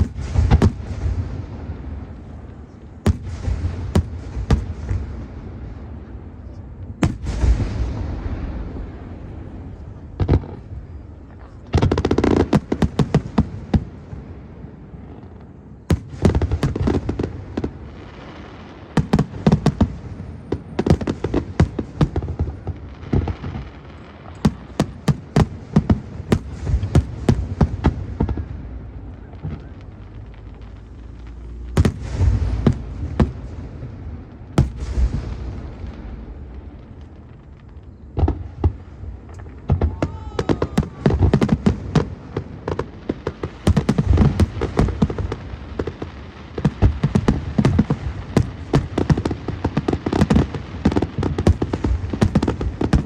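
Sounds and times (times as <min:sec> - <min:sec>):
fireworks bursting with bangs: 0:00.0 - 0:53.0
fireworks crackling: 0:00.0 - 0:53.0.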